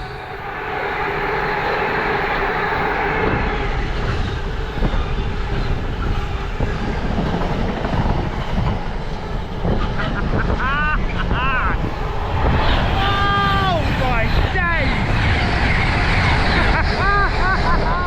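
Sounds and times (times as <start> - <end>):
train wheels rushing on track: 0.0 - 18.0.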